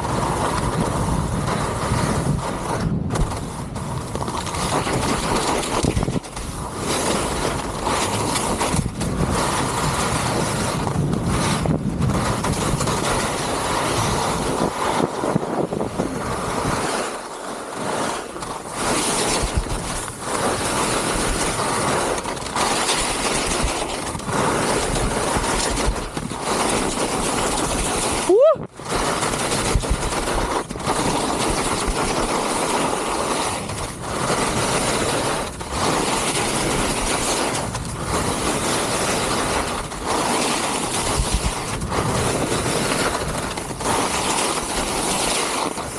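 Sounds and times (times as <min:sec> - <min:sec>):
wind on microphone: 0:00.0 - 0:17.2, 0:18.4 - 0:45.9
skis hissing over snow: 0:00.0 - 0:45.9.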